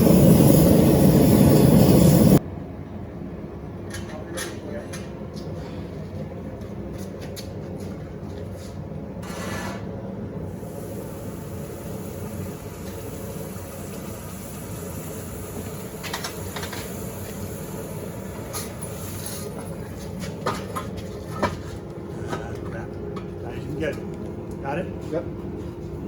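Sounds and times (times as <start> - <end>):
forge equipment roar and hum: 0.0 - 26.0.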